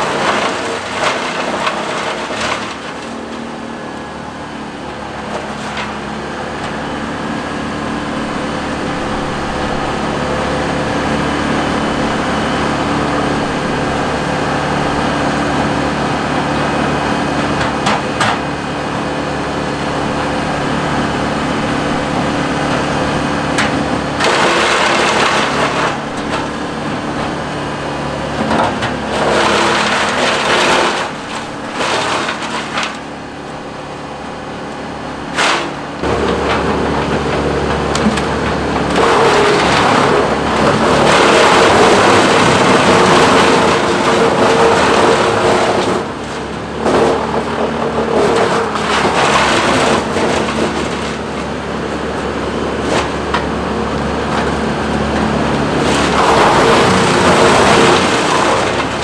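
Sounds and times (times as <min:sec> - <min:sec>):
wood chipper and excavator engines: 0:00.0 - 0:59.0
wood crunching and splintering: 0:00.0 - 0:59.0.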